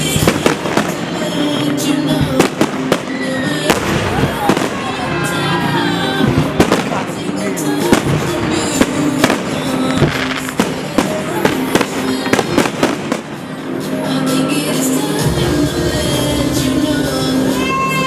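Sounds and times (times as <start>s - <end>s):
fireworks bursting: 0.0s - 18.0s
loud music: 0.0s - 18.0s.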